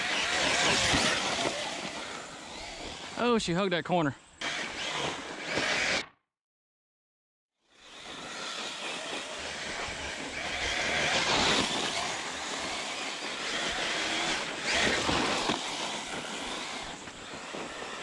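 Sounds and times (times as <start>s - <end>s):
rc car tyres churning dirt: 0.0s - 3.4s, 4.4s - 6.0s, 7.8s - 18.0s.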